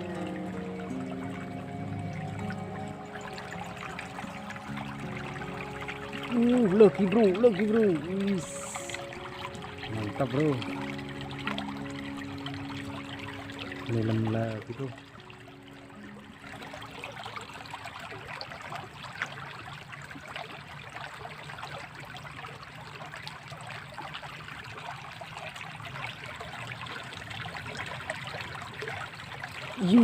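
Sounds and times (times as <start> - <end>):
water trickling in a ditch: 0.0 - 30.0.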